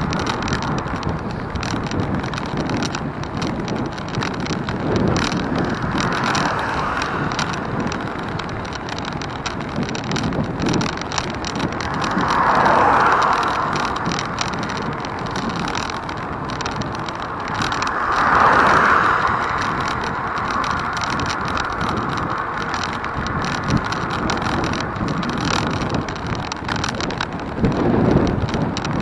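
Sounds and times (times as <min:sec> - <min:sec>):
road and vehicle noise: 0:00.0 - 0:29.0
wind on microphone: 0:00.0 - 0:29.0.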